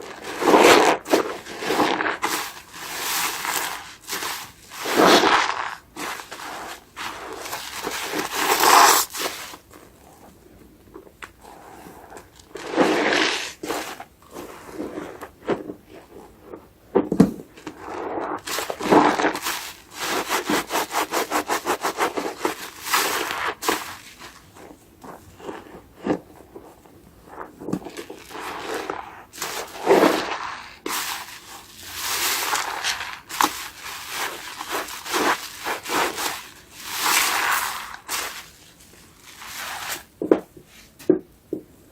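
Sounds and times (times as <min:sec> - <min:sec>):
sponge being squeezed: 0:00.0 - 0:10.2, 0:11.4 - 0:16.6, 0:17.6 - 0:40.3
wet sponge scrubbing: 0:00.0 - 0:10.4, 0:11.4 - 0:16.8, 0:17.6 - 0:41.0.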